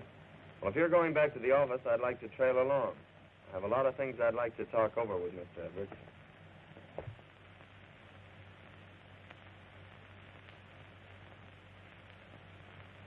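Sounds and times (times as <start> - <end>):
film soundtrack hiss: 0.0 - 13.0
low mains hum: 0.0 - 13.0.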